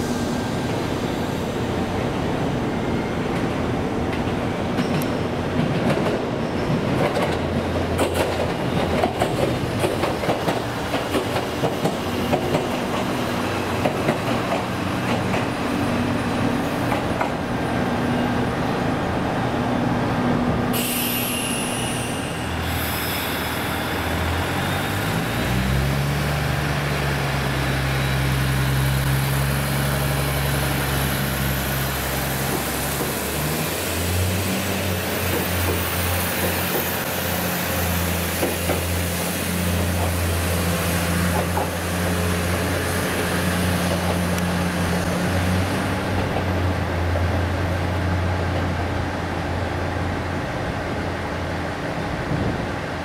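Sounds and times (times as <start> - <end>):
diesel railcar engine humming: 0.0 - 53.0.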